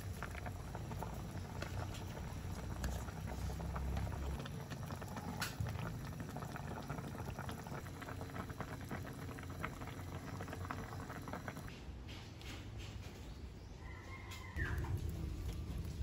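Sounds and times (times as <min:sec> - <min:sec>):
broth boiling in a wok: 0:00.0 - 0:11.8, 0:14.3 - 0:16.0.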